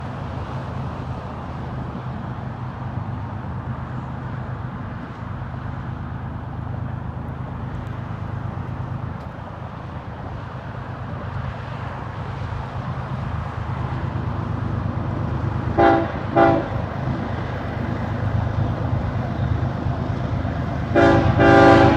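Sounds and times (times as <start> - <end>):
diesel freight train rumble: 0.0 - 21.9.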